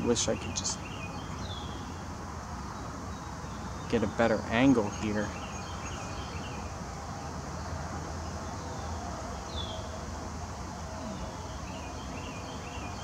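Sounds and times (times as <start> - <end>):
bird chirps: 0.0 - 10.0, 10.8 - 13.0
high insect drone: 0.0 - 13.0.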